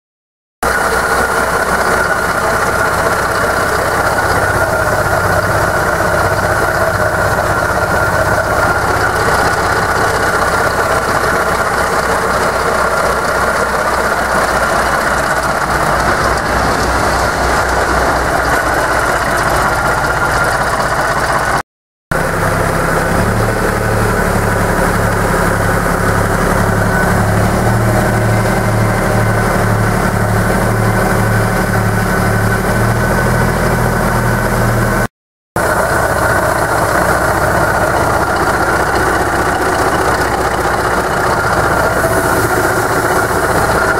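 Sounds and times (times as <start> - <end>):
diesel locomotive engine running: 0.6 - 43.9
low pulsing throb: 0.7 - 21.4, 22.2 - 43.9.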